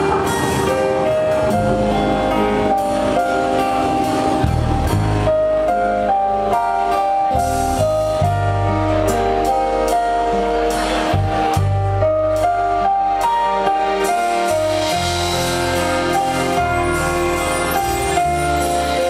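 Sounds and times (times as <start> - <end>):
bass notes: 0.0 - 19.0
keyboard chords: 0.0 - 19.0.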